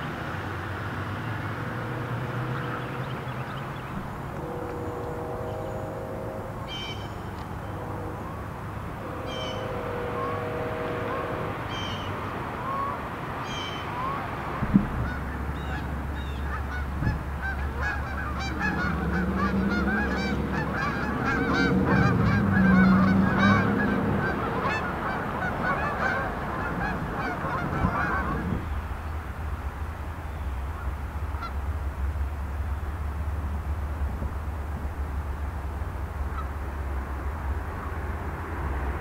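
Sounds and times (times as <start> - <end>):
low steady rumble: 0.0 - 39.0
geese honking: 1.0 - 29.6, 30.2 - 33.1, 35.3 - 38.2.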